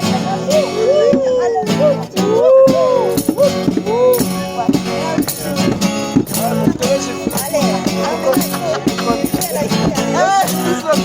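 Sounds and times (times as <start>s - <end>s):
band playing: 0.0s - 11.0s
shaker rattle beat: 0.0s - 11.0s.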